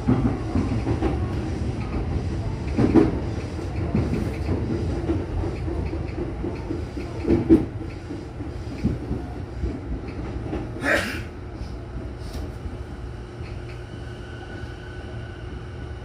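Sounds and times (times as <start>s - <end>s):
faint train whine: 0.0s - 16.0s
train running rumble: 0.0s - 16.0s.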